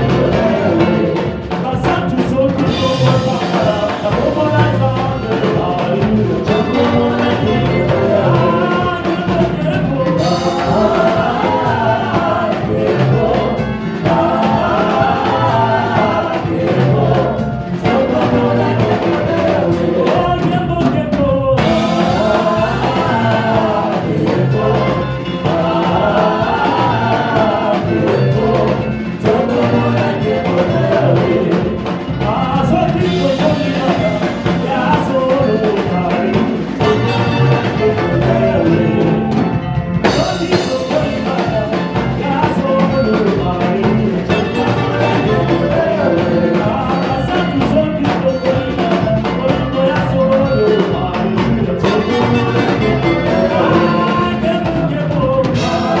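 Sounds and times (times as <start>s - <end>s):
gospel group singing with band: 0.0s - 56.0s.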